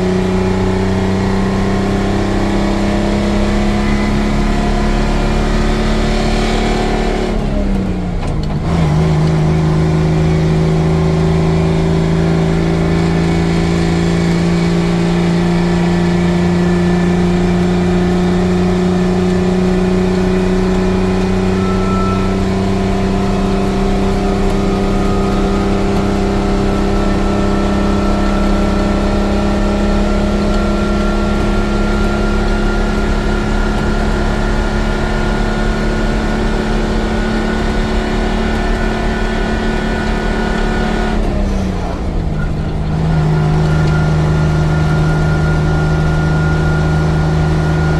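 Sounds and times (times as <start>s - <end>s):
diesel truck engine pulling away: 0.0s - 47.9s.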